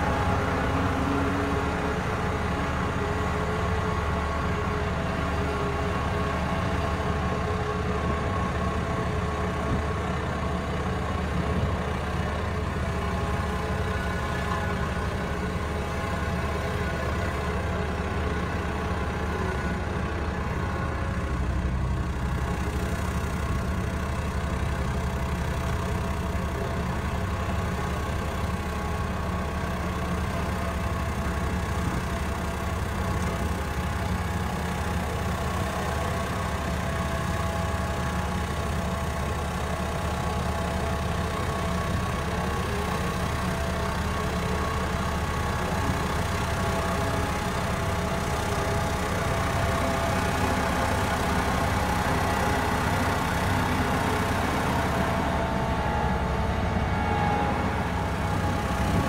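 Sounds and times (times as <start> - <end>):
road roller diesel engine: 0.0 - 59.0.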